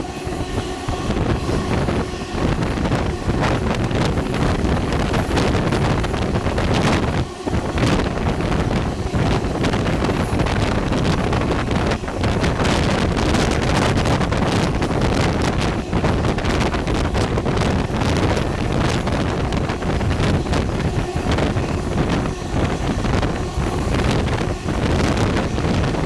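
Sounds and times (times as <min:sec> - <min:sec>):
train running noise: 0:00.0 - 0:26.0
wind buffeting microphone: 0:00.0 - 0:26.0.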